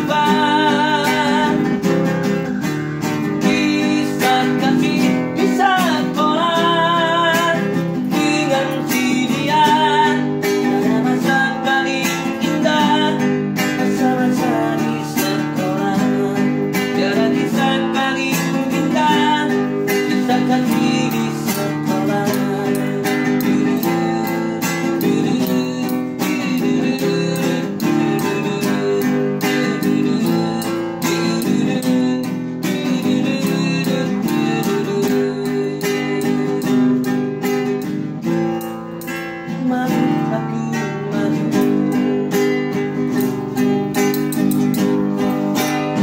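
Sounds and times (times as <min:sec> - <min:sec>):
acoustic guitar strummed: 0:00.0 - 0:46.0.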